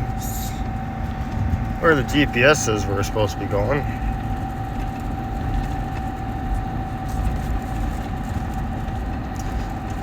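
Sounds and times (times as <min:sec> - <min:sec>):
thin engine whine: 0:00.0 - 0:10.0
vehicle engine running: 0:00.0 - 0:10.0.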